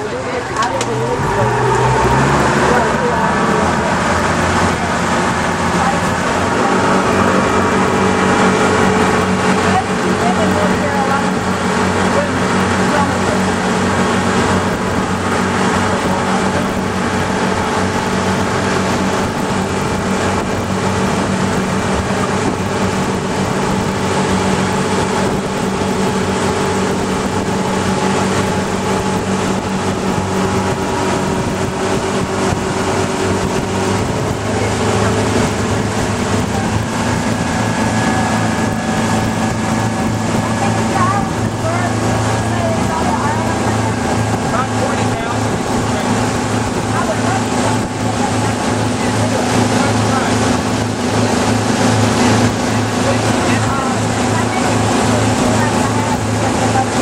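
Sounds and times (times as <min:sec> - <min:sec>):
boat engine droning: 0:00.0 - 0:57.0
water rushing: 0:00.0 - 0:57.0
wind: 0:00.0 - 0:57.0.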